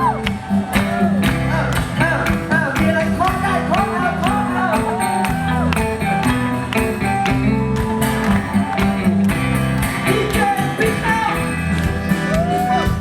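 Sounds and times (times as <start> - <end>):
music with steady beat: 0.0 - 13.0.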